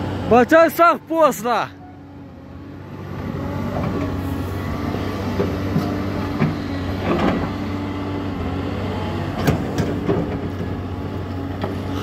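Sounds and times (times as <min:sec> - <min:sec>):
excavator diesel engine: 0:00.0 - 0:12.0.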